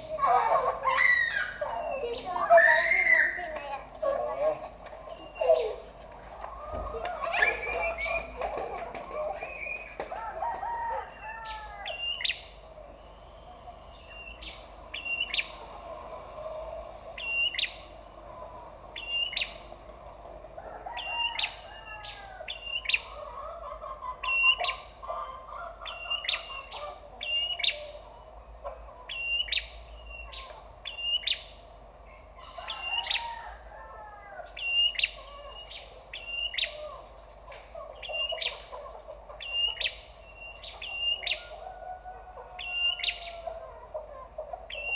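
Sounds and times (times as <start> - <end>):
prinia chirping: 0.0 - 10.0, 11.1 - 19.9, 21.0 - 44.9
other birds calling: 0.0 - 44.9.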